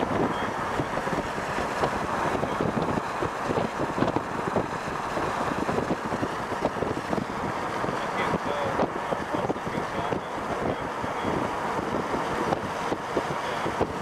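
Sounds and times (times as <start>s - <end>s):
car road noise: 0.0s - 14.0s
wind buffeting microphone: 0.0s - 14.0s.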